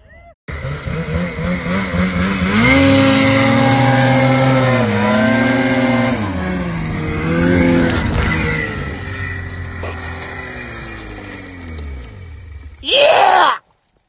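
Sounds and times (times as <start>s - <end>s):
snowmobile engine revving: 0.5s - 13.1s.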